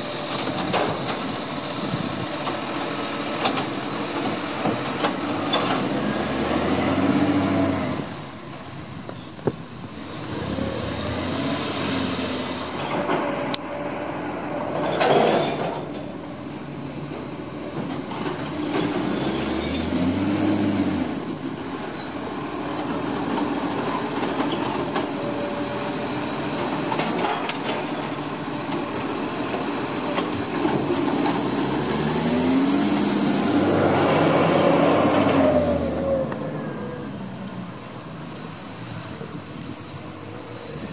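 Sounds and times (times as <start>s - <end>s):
garbage truck diesel engine: 0.0s - 40.9s.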